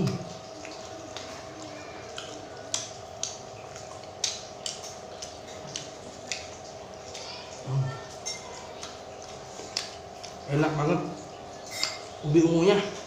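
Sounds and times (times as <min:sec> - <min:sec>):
person chewing crispy food: 0:00.0 - 0:10.5.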